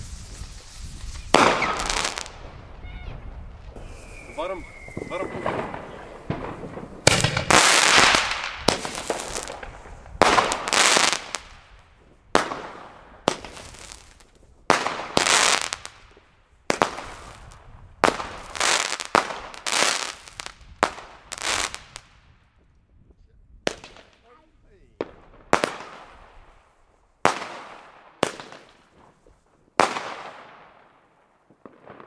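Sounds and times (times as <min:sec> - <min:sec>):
firework shots popping and hissing: 0:00.0 - 0:22.4, 0:23.6 - 0:32.0.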